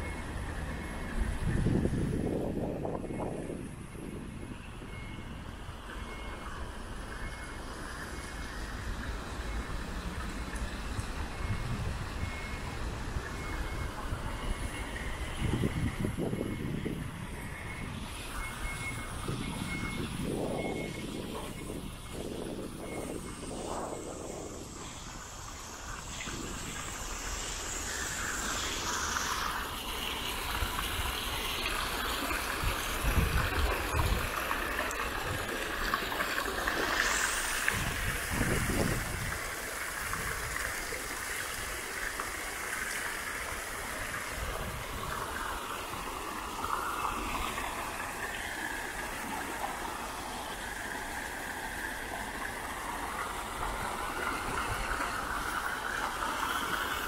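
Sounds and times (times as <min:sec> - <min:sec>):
fountain water splashing: 0:05.4 - 0:57.0.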